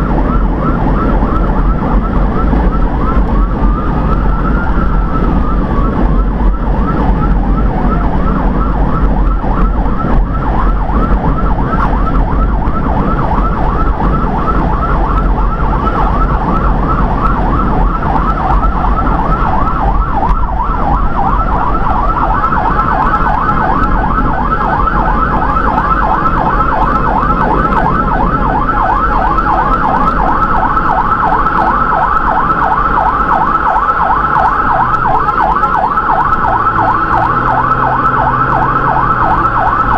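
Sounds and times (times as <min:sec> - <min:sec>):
emergency siren wailing and yelping: 0:00.0 - 0:39.9
engine and road rumble: 0:00.0 - 0:39.9
steady high siren tone: 0:00.0 - 0:39.9.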